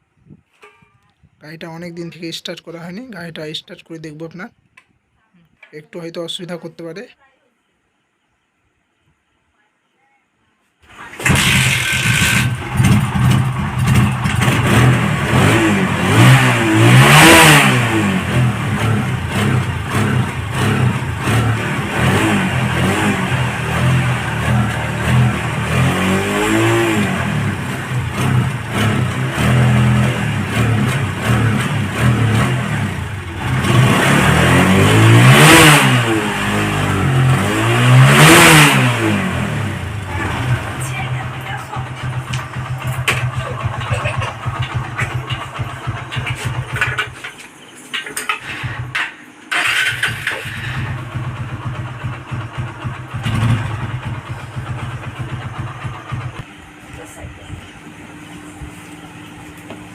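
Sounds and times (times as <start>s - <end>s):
motorcycle engine revving and idling: 10.9s - 47.4s, 48.3s - 59.9s.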